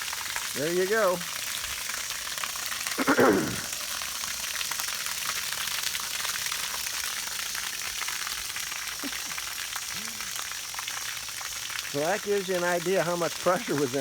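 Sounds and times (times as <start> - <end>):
water gushing from drain valve: 0.0 - 14.0.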